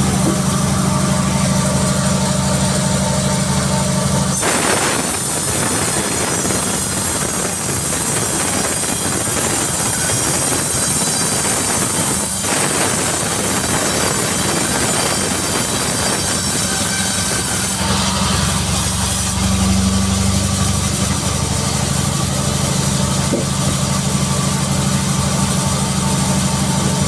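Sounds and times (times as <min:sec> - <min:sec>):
saw cutting through log: 0:00.0 - 0:27.0.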